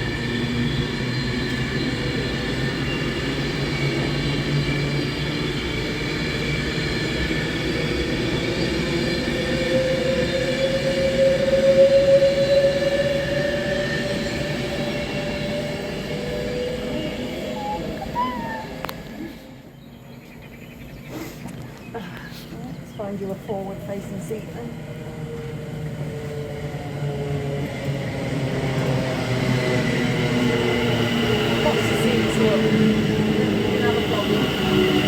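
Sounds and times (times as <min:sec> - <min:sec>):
train machine hum: 0:00.0 - 0:21.0, 0:21.6 - 0:35.0.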